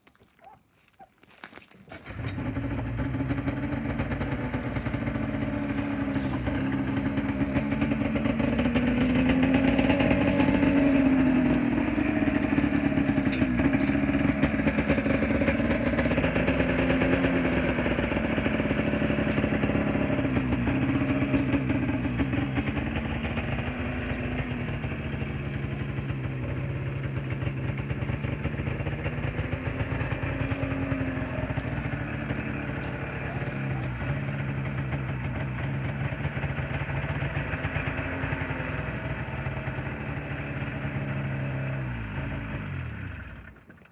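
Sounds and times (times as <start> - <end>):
snowmobile engine running: 2.0 - 43.6.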